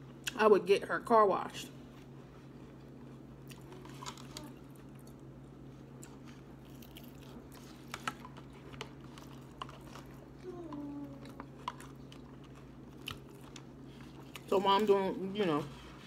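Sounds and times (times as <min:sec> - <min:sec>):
chewing leafy salad: 0:02.4 - 0:16.0.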